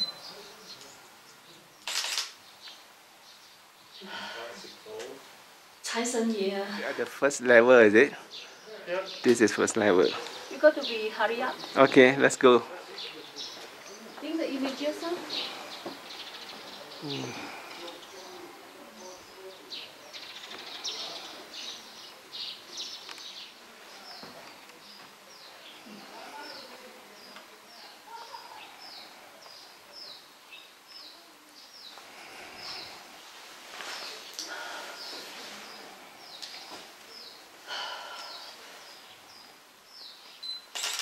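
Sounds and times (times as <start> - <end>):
small birds chirping: 0.0 - 40.8.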